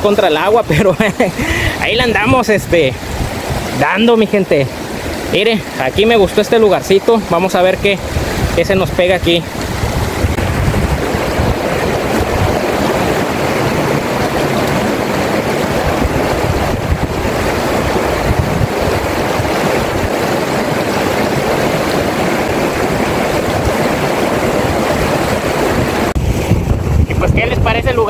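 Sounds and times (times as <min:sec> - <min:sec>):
river water rushing over rocks: 0:00.0 - 0:27.0.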